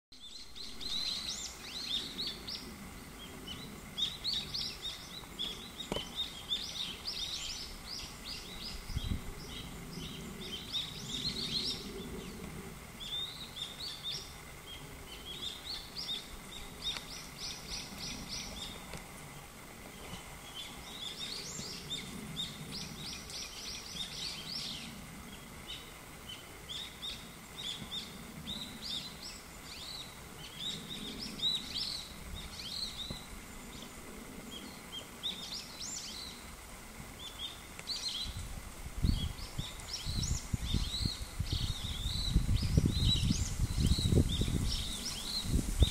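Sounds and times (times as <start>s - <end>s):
birds chirping: 0.2s - 36.5s, 39.0s - 45.9s.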